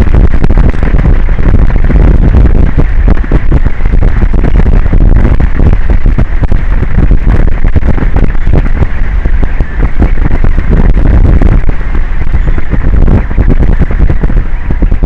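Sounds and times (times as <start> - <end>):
constant crackling: 0.0 - 15.0
wind buffeting microphone: 0.0 - 15.0.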